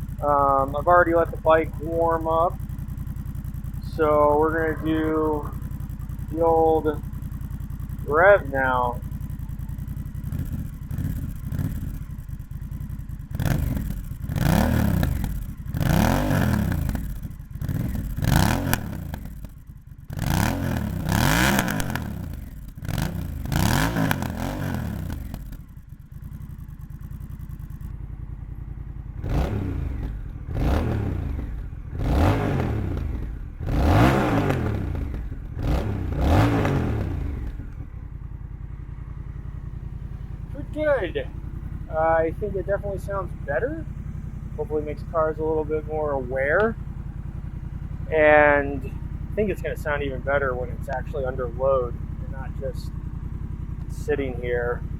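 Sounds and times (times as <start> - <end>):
motorcycle engine idling: 0.0 - 54.9
motorcycle engine revving: 0.0 - 54.9.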